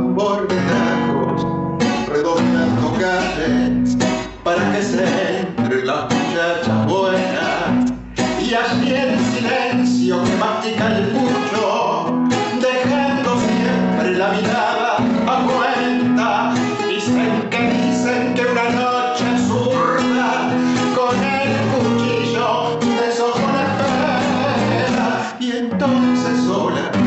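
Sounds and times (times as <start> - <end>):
man singing: 0.0 - 27.0.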